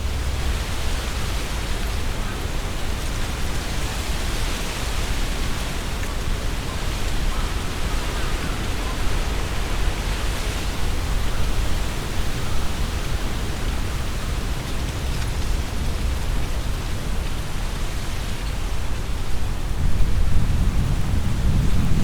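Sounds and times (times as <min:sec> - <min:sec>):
deep rumble of wind gusts: 0:00.0 - 0:22.0
leaves rustling in wind: 0:00.0 - 0:22.0.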